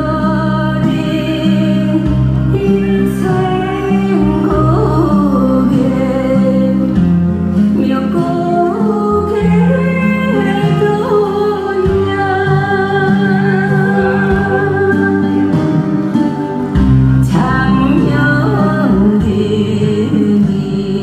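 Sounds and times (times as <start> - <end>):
instrumental accompaniment: 0.0 - 21.0
woman singing into microphone: 0.0 - 21.0.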